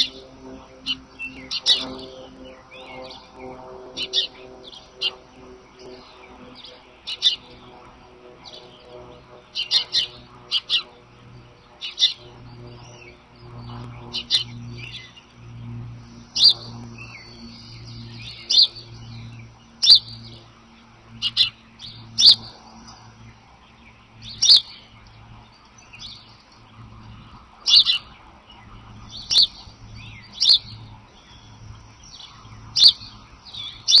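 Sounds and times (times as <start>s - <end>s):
birds chirping: 0.0s - 34.0s
faint low pulsing hum: 0.0s - 34.0s.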